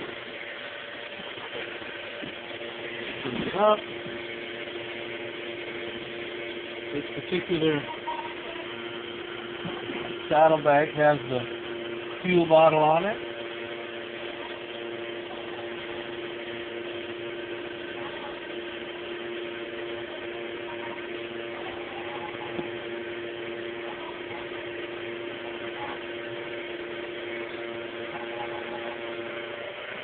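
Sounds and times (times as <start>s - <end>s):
steady hum with hiss: 0.0s - 30.0s.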